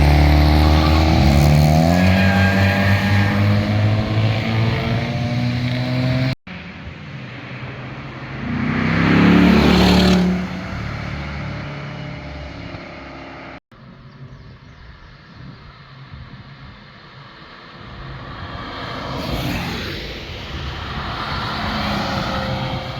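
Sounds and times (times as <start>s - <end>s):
cars driving by: 0.0s - 13.6s, 15.7s - 22.9s.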